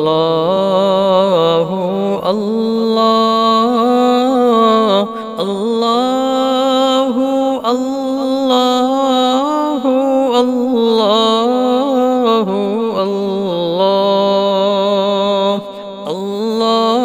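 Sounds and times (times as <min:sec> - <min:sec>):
vocal chanting without instruments: 0:00.0 - 0:17.0.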